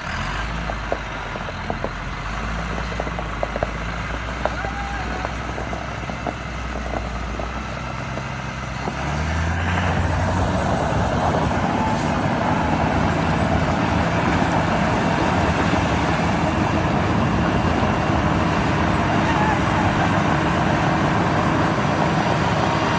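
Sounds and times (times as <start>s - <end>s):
heavy vehicle engine running: 0.0s - 22.9s.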